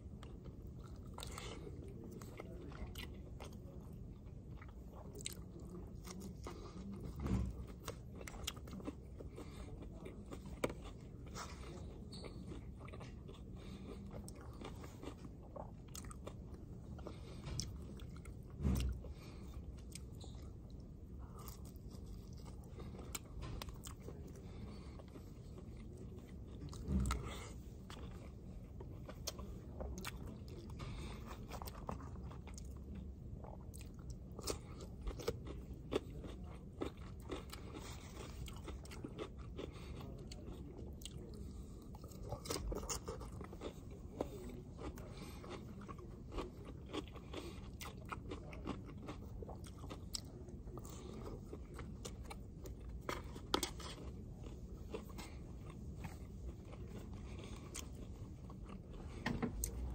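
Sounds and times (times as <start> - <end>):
person chewing food: 0.0 - 59.9
steady low hum: 0.0 - 59.9.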